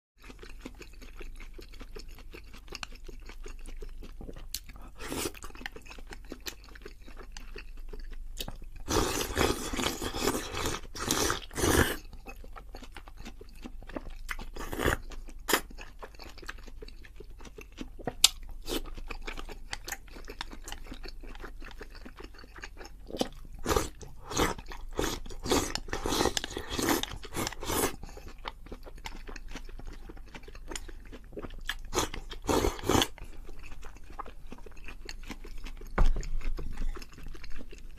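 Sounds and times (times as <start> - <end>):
person crunching crunchy food: 0.2 - 37.9.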